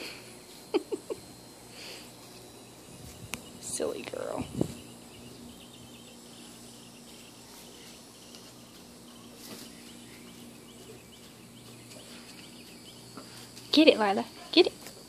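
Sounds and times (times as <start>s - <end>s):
faint high-pitched insect chirps: 0.0s - 15.0s
low steady hum: 0.0s - 15.0s.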